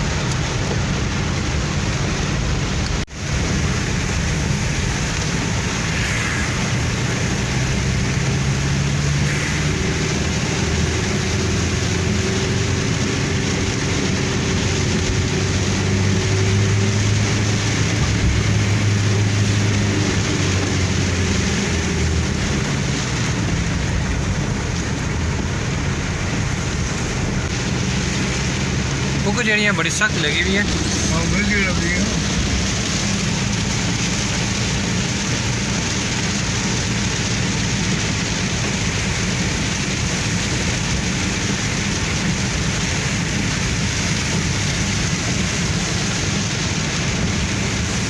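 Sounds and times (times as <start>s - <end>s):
car engine hum: 0.0s - 48.0s
heavy rain: 0.0s - 48.0s
tyre noise on wet road: 0.0s - 48.0s.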